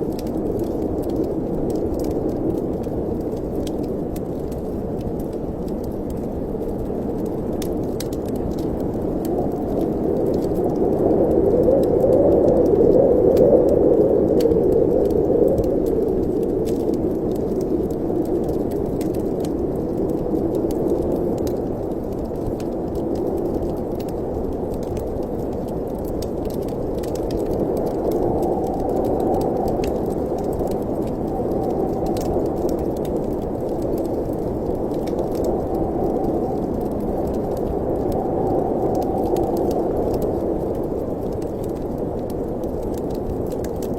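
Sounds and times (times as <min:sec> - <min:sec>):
wood fire crackling: 0:00.0 - 0:43.9
wind blowing: 0:06.4 - 0:43.9.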